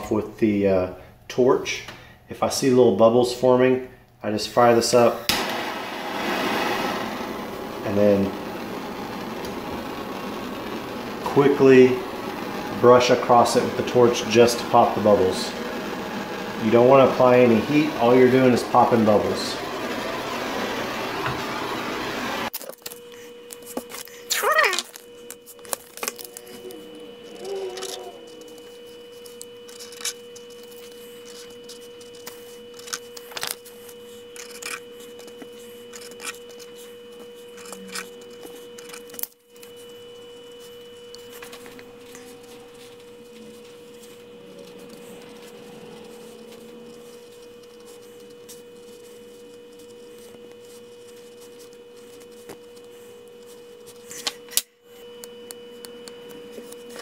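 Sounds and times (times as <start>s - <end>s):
steady mid-pitched hum: 0.0s - 57.0s
high whine: 4.7s - 22.5s, 23.3s - 57.0s.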